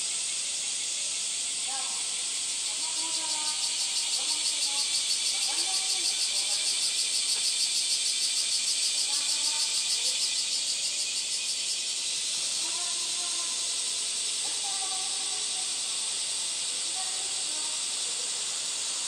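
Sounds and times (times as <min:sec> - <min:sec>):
cicadas chorus: 0:00.0 - 0:19.0.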